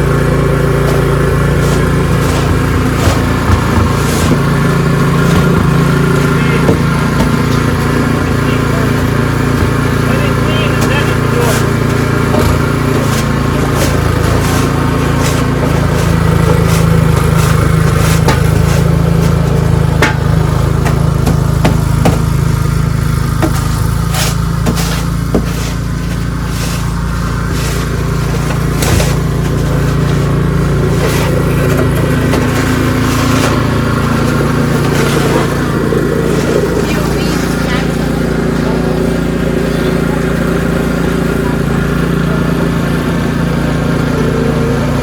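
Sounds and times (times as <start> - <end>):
snowblower engine running: 0.0 - 45.0.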